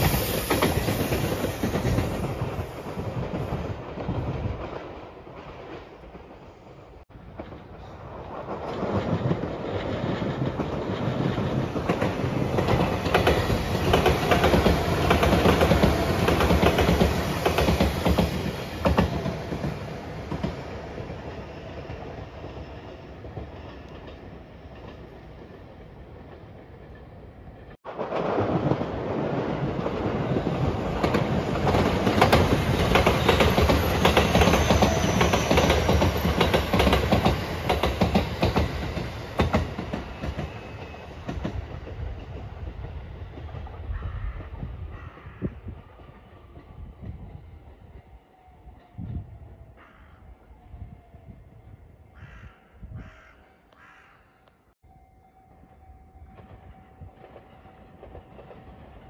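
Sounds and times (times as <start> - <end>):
train wheels clacking on rails: 0.0 - 6.5, 7.2 - 48.0, 56.3 - 59.0
electric train passing: 0.0 - 44.9, 54.9 - 59.0.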